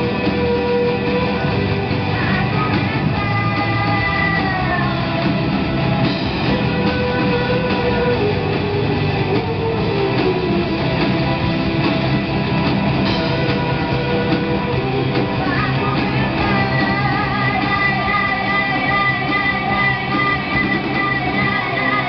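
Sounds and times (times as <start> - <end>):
bass guitar: 0.0 - 22.0
drum kit: 0.0 - 22.0
electric guitars: 0.0 - 22.0.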